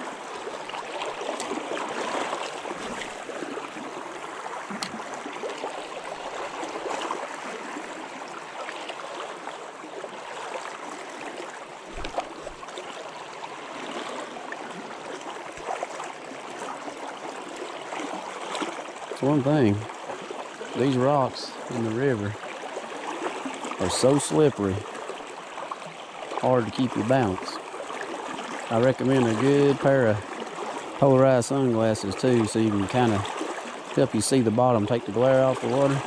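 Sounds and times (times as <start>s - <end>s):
river water rushing and gurgling: 0.0s - 36.0s.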